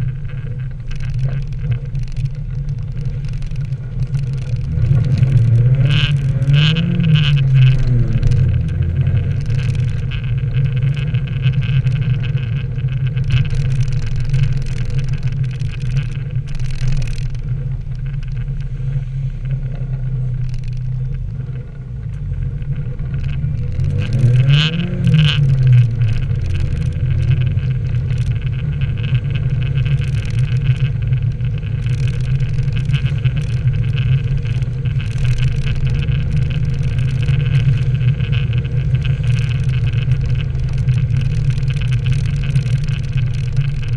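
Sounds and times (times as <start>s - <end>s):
car engine drone: 0.0s - 43.9s
tyre noise on wet road: 0.0s - 43.9s.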